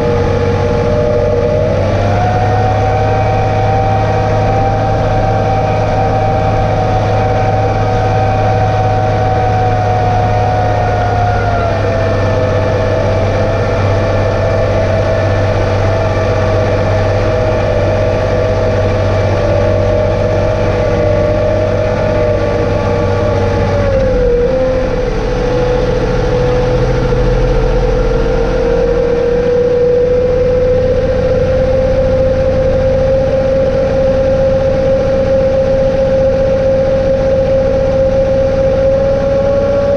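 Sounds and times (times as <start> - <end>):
loud high whine: 0.0 - 39.9
tractor diesel engine running: 0.0 - 39.9.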